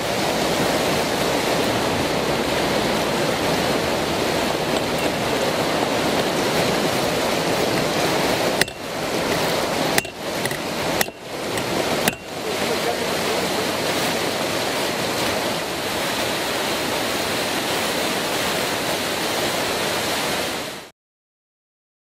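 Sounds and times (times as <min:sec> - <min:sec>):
rushing white water: 0:00.0 - 0:20.9.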